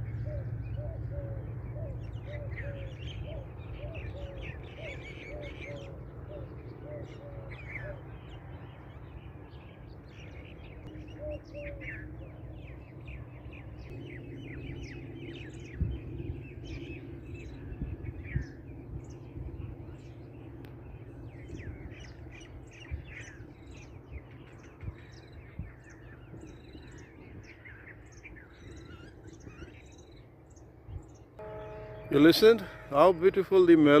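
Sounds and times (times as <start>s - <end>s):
steady low rumble: 0.0s - 29.5s
songbirds chirping and singing: 0.0s - 34.0s.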